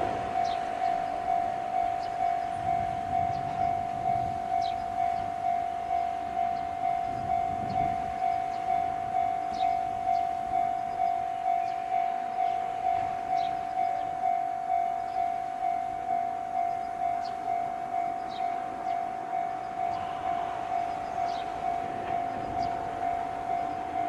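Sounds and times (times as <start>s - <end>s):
level-crossing electronic bell: 0.0s - 24.0s.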